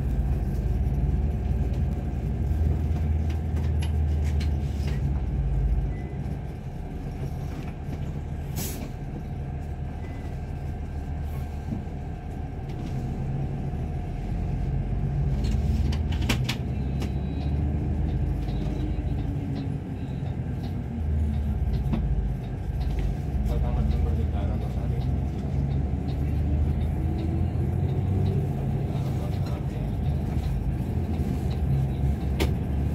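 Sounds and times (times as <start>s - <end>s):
heavy vehicle engine rumble: 0.0s - 32.9s.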